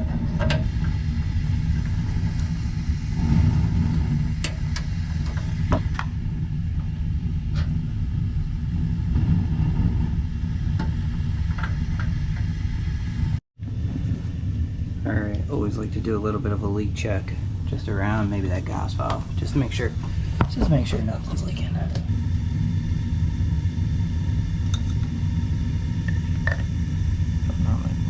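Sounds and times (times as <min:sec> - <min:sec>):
gas burner low rumble: 0:00.0 - 0:28.0.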